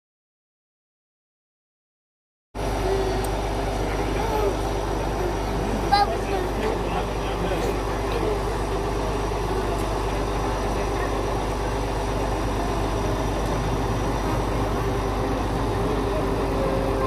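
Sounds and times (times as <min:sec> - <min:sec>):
diesel engine idling: 0:02.6 - 0:17.0
faint steady whine: 0:02.6 - 0:17.0.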